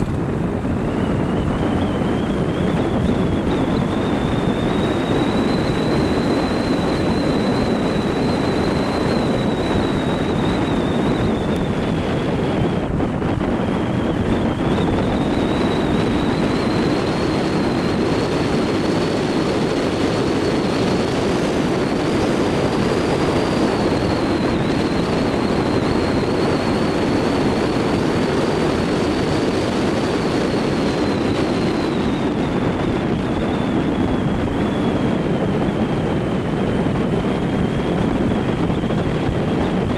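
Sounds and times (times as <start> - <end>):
car road and engine rumble: 0.0 - 39.9
thin high whine: 0.0 - 39.9.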